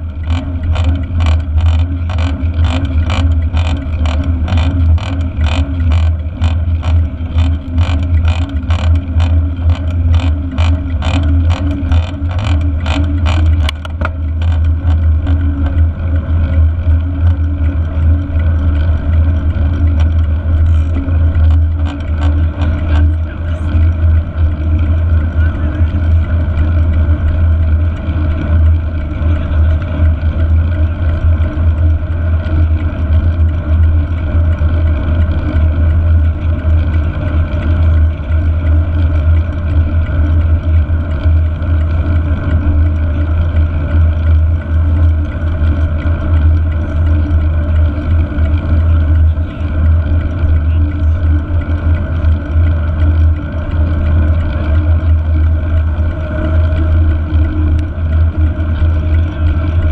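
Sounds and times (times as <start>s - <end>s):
bike tyre noise on asphalt: 0.0s - 59.9s.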